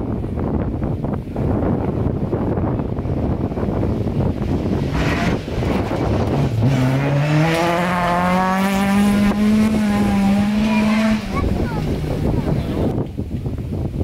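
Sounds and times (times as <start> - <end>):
rally car engine at full throttle: 0.0 - 14.0.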